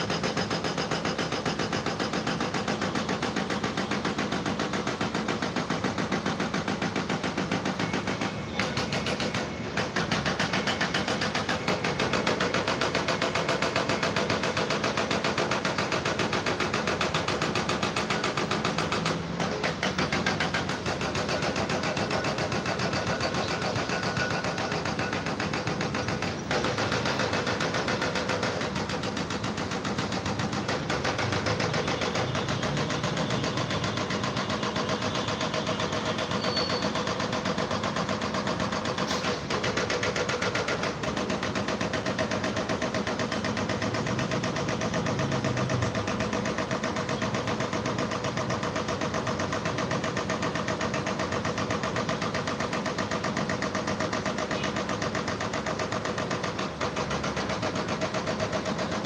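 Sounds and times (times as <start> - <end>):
machine rattling: 0.0 - 59.0.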